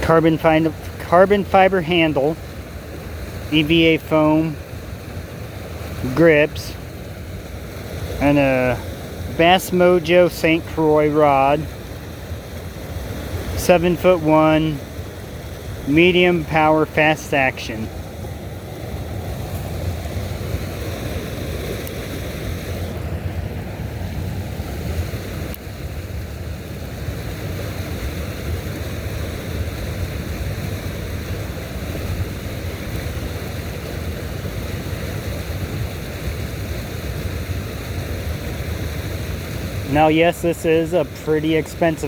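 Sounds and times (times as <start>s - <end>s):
water rushing: 0.0s - 42.0s.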